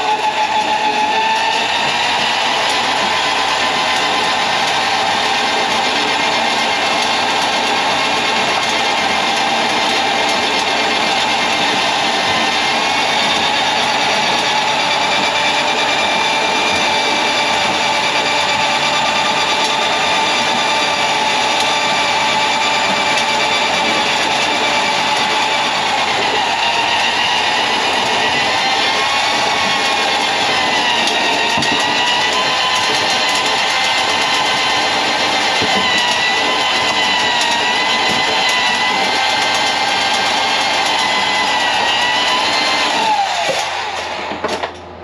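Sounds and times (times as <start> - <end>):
drain snake motor running: 0.0 - 44.4.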